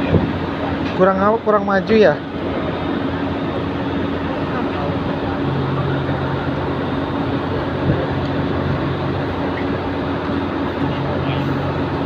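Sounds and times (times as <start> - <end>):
deeper hum: 0.0 - 12.0
ferry engines droning: 0.0 - 12.0.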